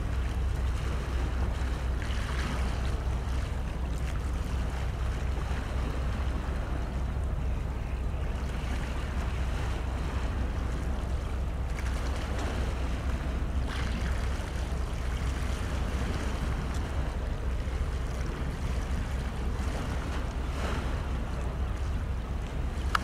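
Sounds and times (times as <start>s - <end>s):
waves washing: 0.0s - 23.0s
wind rumbling on microphone: 0.0s - 23.0s.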